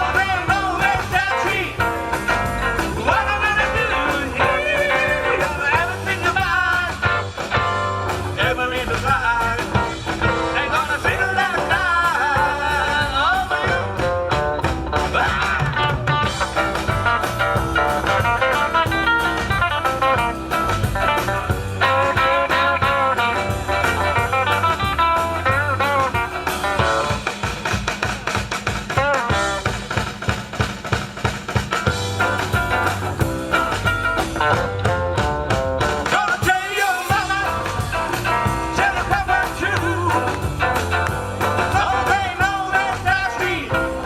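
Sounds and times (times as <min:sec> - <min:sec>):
live rock and roll band: 0:00.0 - 0:44.0.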